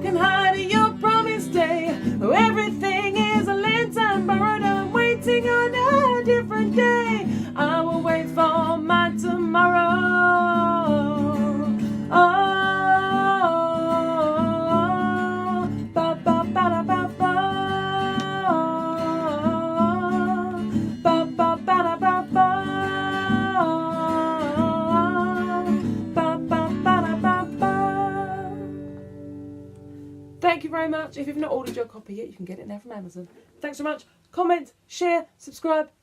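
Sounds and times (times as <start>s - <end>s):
acoustic guitar: 0.0s - 34.6s.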